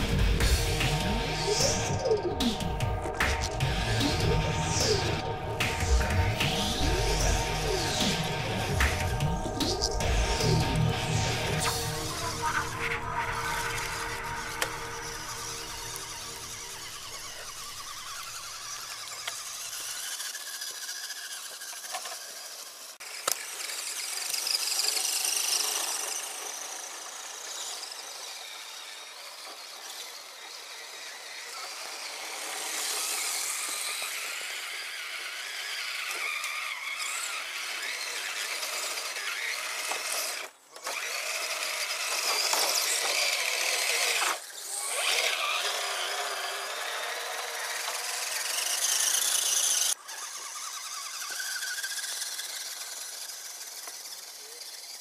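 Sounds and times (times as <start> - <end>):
toy car electric motor whining: 0.0 - 55.0.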